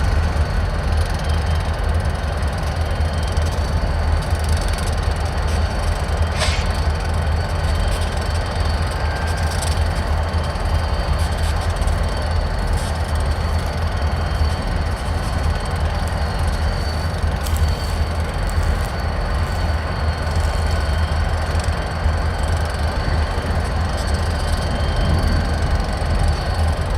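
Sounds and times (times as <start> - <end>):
freight train rumbling: 0.0 - 26.9
wheels squealing on rails: 0.0 - 26.9.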